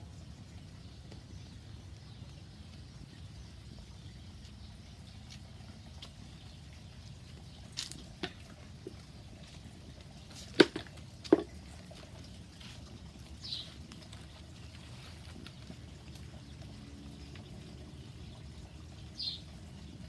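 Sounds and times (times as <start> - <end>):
low steady background noise: 0.0 - 20.0.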